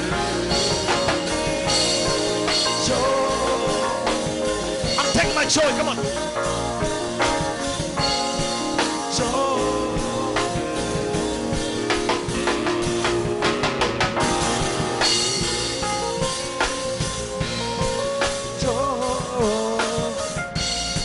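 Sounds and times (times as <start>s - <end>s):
drum kit beat: 0.0s - 21.0s
sustained keyboard chords: 0.0s - 21.0s.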